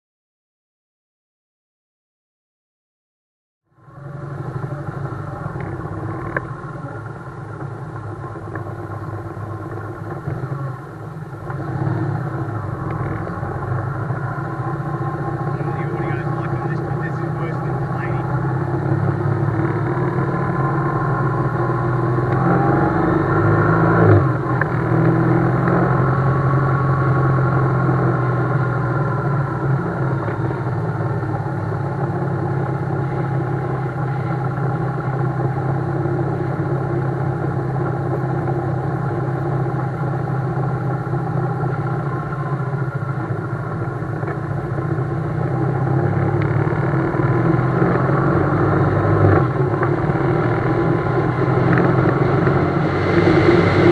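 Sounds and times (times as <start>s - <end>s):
motorcycle engine running: 3.7s - 53.9s.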